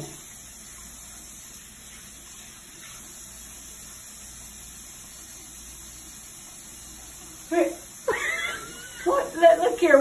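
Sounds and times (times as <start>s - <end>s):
sink tap running water: 0.0s - 10.0s.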